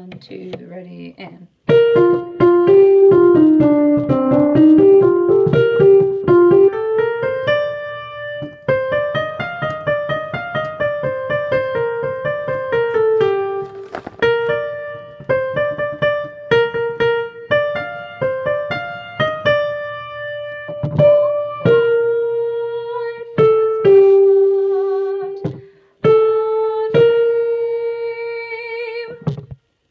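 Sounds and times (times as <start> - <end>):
piano playing: 1.6 - 29.3.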